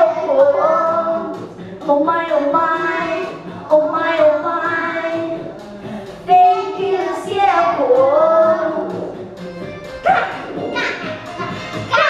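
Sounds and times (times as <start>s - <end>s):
young children singing: 0.0s - 9.4s, 10.2s - 12.0s.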